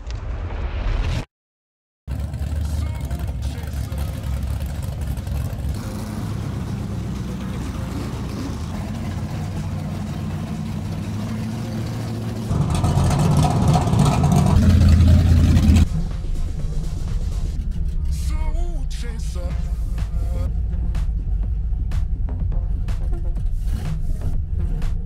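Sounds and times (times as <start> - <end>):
car engines rumbling: 2.1 - 25.0.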